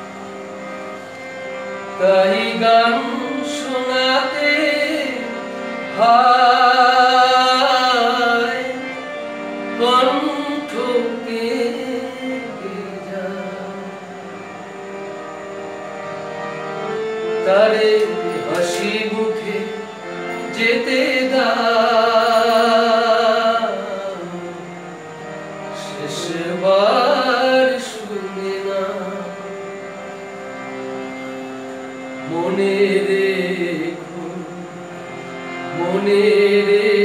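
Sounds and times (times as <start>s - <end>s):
harmonium chords: 0.0s - 37.0s
man singing with vibrato: 1.7s - 15.0s, 16.7s - 37.0s.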